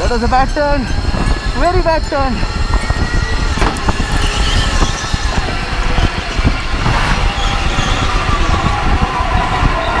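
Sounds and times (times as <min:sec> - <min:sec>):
electric motor whine: 0:00.0 - 0:10.0
heavy low rumble: 0:00.0 - 0:10.0.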